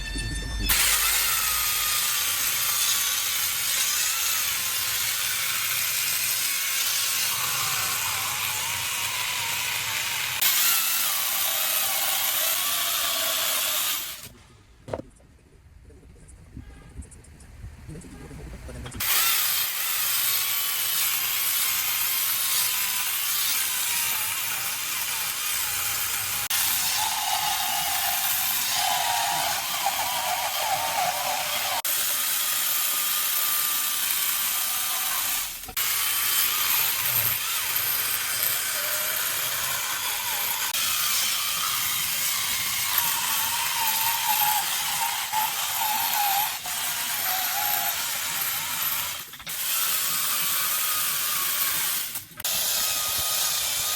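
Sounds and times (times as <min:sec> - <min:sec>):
chainsaw cutting wood: 0:00.8 - 0:14.4, 0:19.0 - 0:53.9.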